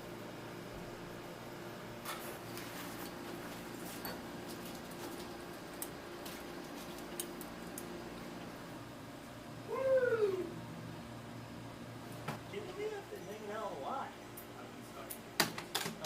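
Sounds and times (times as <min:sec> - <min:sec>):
low steady hum: 0:00.0 - 0:15.4.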